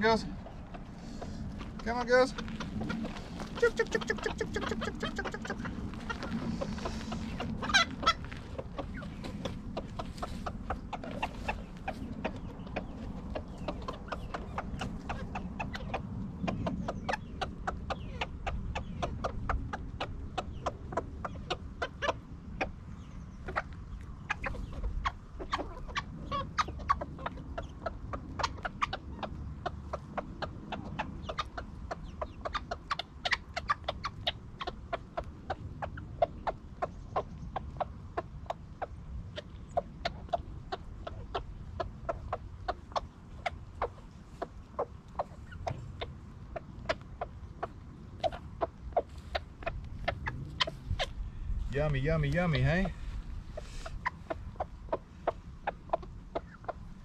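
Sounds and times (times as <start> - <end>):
chickens clucking softly: 0.0 - 57.0
chickens pecking on dirt: 0.0 - 57.0.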